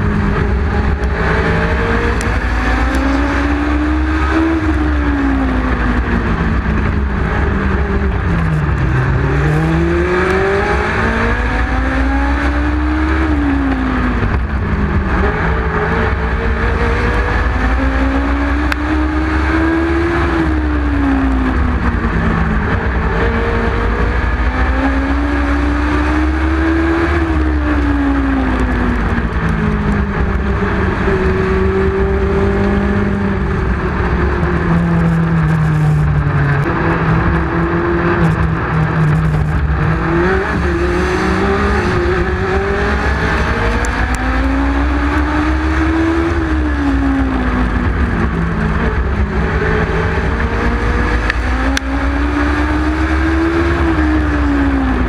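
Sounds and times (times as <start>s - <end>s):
racing engine revving: 0.0s - 55.0s.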